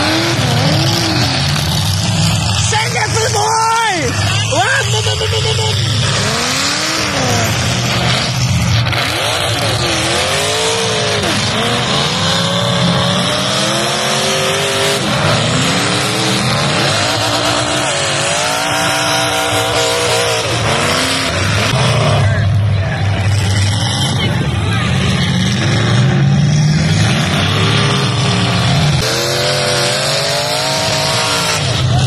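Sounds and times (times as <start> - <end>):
car engines revving: 0.0 - 32.0
din of several engines: 0.0 - 32.0.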